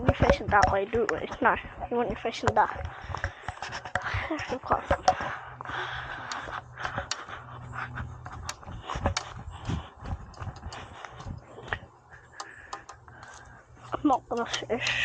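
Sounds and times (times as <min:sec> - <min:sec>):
fishing gear knocking and rustling: 0:00.0 - 0:15.0
footsteps on a path: 0:00.0 - 0:15.0.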